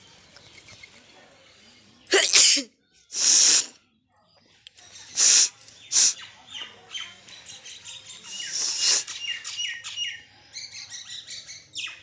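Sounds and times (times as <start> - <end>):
small birds chirping: 0.0 - 2.1, 2.8 - 12.0.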